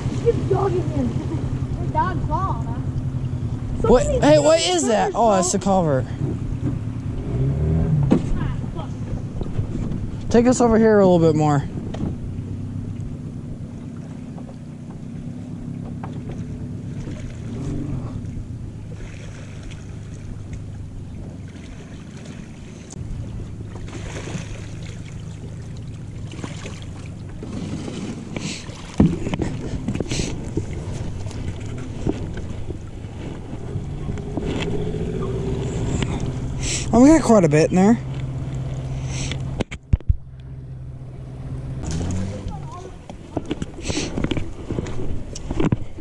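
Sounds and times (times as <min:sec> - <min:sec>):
boat knocking against shore: 0:00.0 - 0:07.2, 0:07.8 - 0:38.8
low engine rumble: 0:00.0 - 0:46.0
water sloshing against hull: 0:00.0 - 0:46.0.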